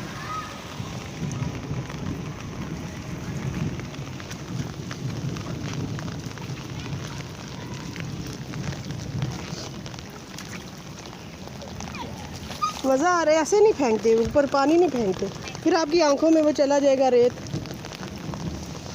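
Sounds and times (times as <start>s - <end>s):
rain falling: 0.0s - 18.9s.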